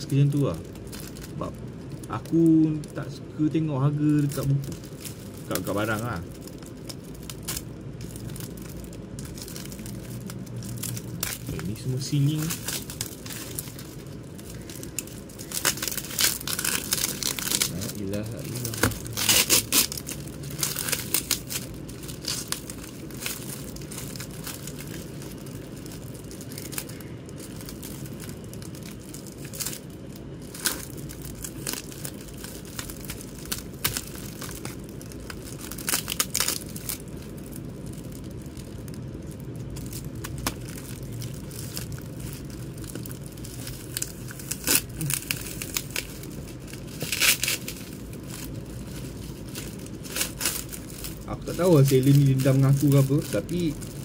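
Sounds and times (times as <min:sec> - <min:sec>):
low background hum: 0:00.0 - 0:54.0
plastic wrap crinkling and tearing: 0:00.0 - 0:54.0.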